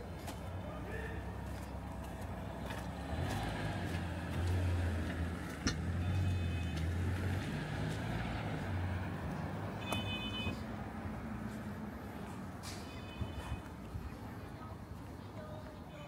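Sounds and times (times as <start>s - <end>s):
road traffic engine rumble: 0.0s - 16.0s.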